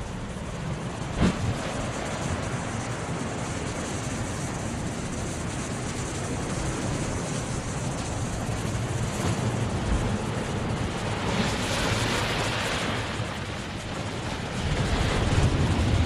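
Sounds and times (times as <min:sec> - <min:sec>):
sea surf rushing: 0:00.0 - 0:16.0
wind: 0:00.0 - 0:16.0.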